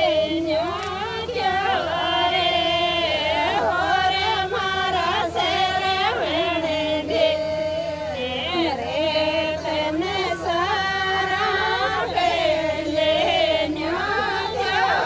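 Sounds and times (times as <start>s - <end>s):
women singing folk song: 0.0s - 15.0s.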